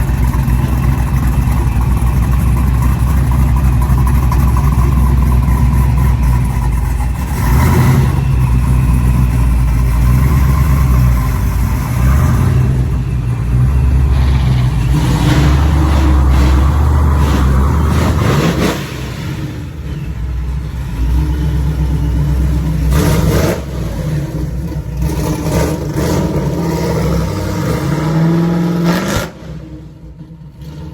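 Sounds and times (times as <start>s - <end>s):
car engine deep exhaust: 0.0s - 30.9s.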